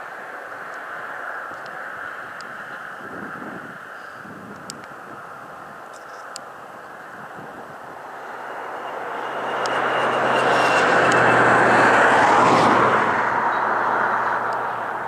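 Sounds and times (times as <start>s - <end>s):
high jet whine: 0.0s - 15.0s
jet engines roaring: 0.0s - 15.0s.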